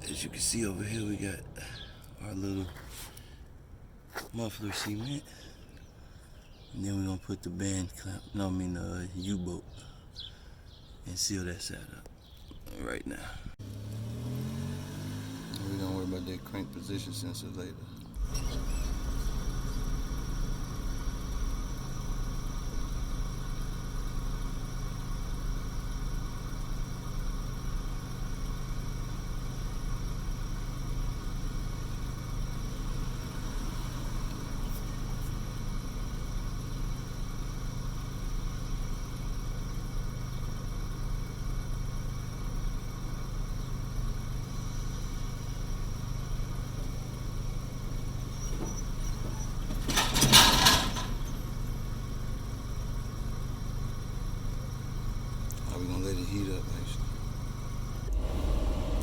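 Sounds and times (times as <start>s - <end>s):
car engine idling: 0.0s - 4.0s, 12.8s - 59.0s.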